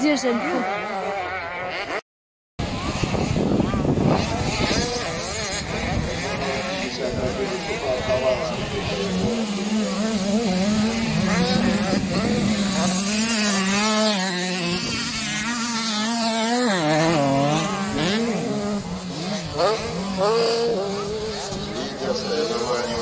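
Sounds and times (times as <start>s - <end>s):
motocross bikes revving: 0.0s - 2.0s, 2.6s - 23.0s.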